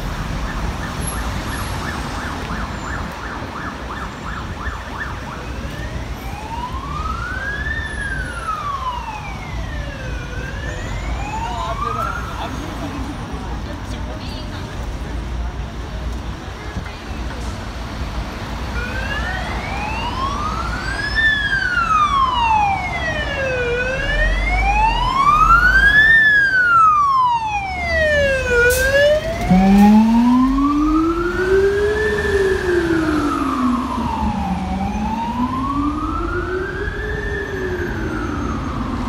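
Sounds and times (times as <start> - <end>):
fire engine wail siren: 0.0 - 12.9, 18.6 - 39.0
truck engine rumble: 5.3 - 39.0.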